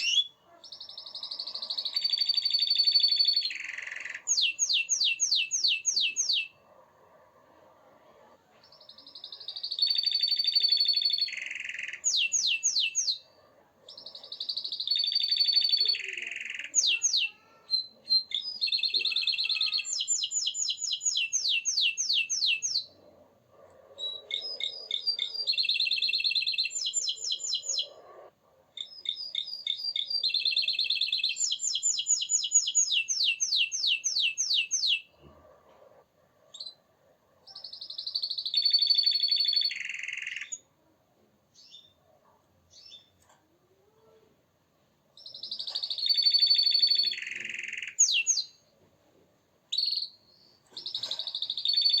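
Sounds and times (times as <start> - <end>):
canary singing trills: 0.0 - 40.7, 41.5 - 42.1, 45.2 - 48.8, 49.7 - 52.0.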